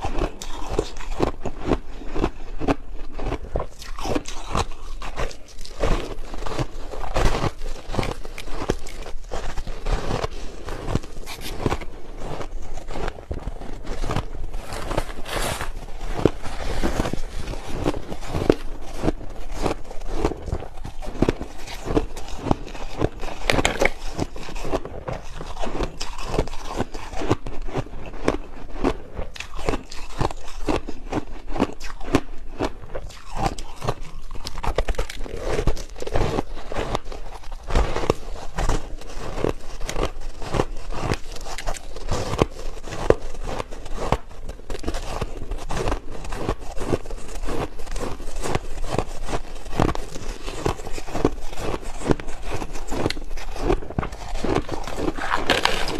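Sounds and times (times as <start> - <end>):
crushed ice being chewed: 0.0 - 55.9.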